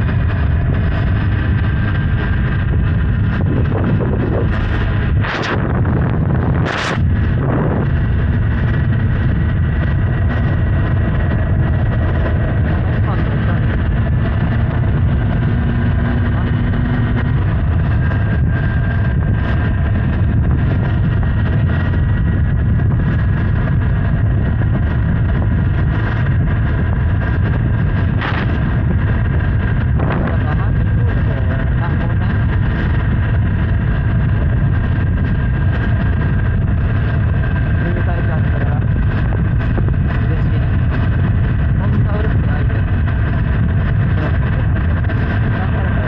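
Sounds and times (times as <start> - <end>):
motorcycle engine running: 0.0 - 46.0
wind buffeting microphone: 0.0 - 46.0.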